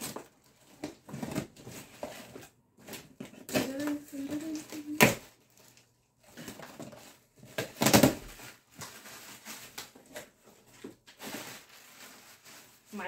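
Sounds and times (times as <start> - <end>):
plastic packing crinkling: 0.0 - 13.0.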